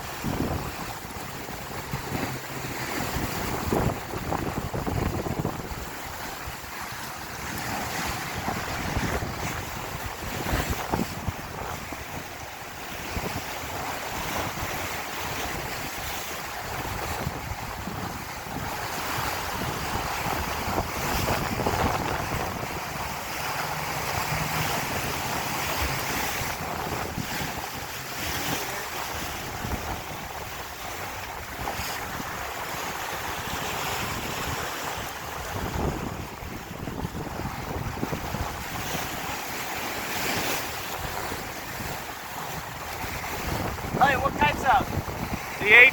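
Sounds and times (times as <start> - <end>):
waves rushing along hull: 0.0 - 45.9
wind buffeting microphone: 0.0 - 45.9.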